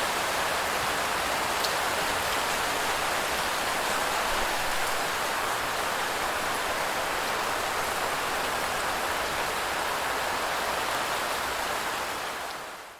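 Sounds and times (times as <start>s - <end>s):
steady rain hiss: 0.0s - 12.9s.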